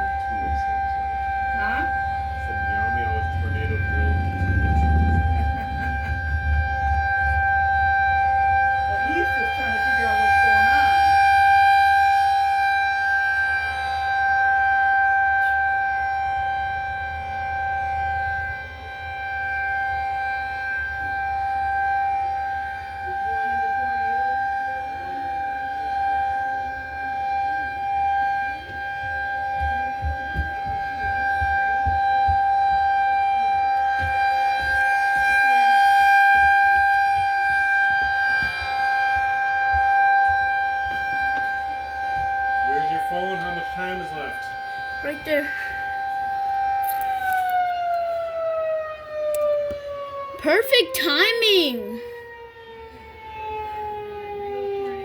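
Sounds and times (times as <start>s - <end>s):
rotating warning siren steady tone: 0.0s - 55.0s.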